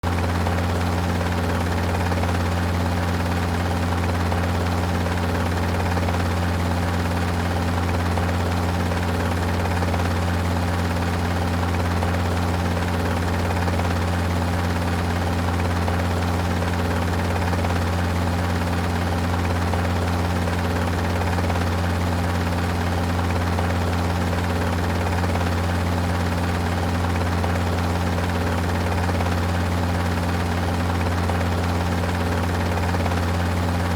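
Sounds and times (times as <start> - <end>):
helicopter droning: 0.0 - 33.9.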